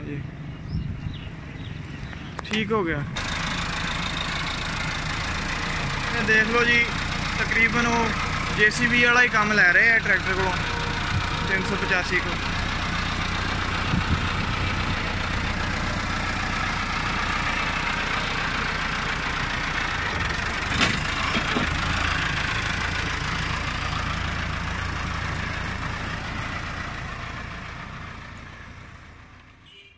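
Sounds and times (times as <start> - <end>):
tractor diesel engine running: 0.0 - 29.8.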